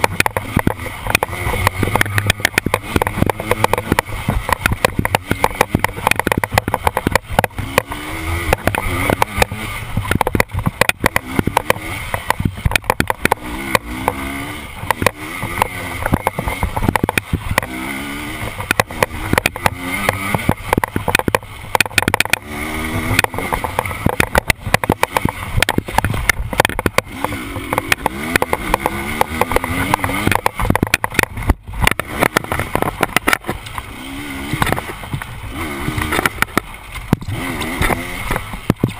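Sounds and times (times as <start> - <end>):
dirt bike engine revving: 0.0 - 38.9
knocks and rattles of bike: 0.0 - 38.9.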